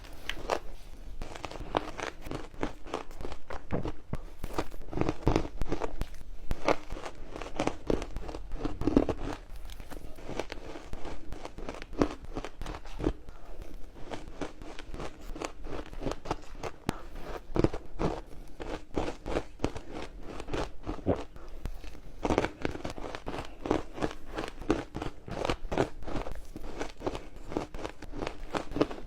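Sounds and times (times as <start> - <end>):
ice crunching between teeth: 0.0 - 29.0.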